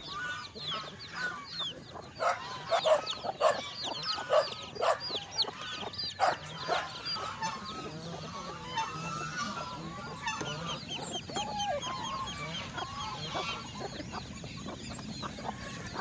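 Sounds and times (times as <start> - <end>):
clucks and quacks: 0.0 - 16.0
ducklings and chicks peeping: 0.0 - 16.0.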